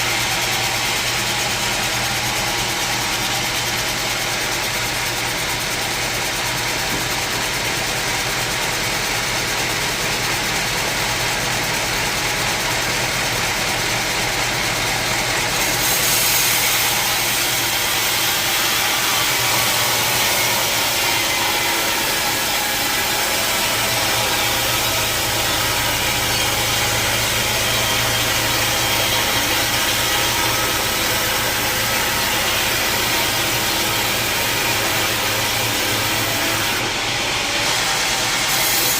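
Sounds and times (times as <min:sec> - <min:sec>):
sawmill saw machinery droning: 0:00.0 - 0:38.9.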